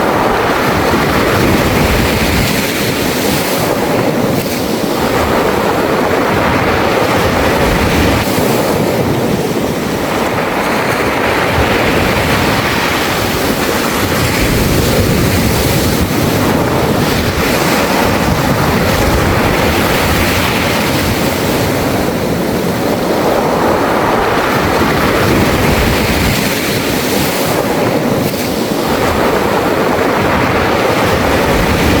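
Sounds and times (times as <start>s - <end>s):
waves washing over pebbles: 0.0s - 32.0s.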